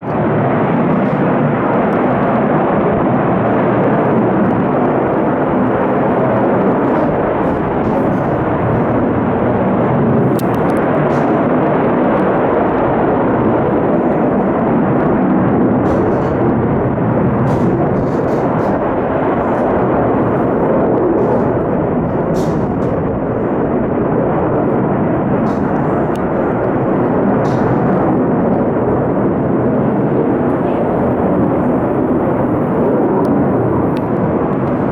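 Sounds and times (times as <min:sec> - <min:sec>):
loud jet engine noise: 0:00.0 - 0:34.9.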